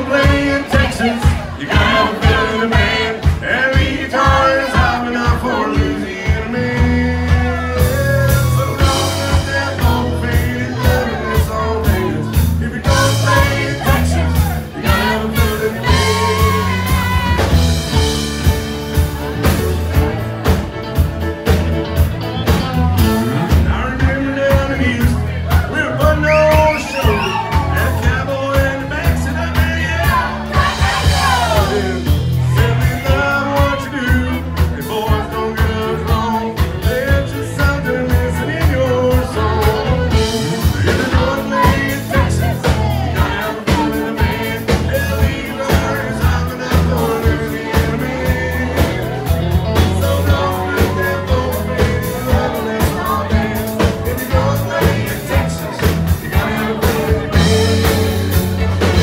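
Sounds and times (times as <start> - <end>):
man singing: 0.0 - 18.7, 22.3 - 59.0
drums: 0.0 - 59.0
electric guitar: 0.0 - 59.0.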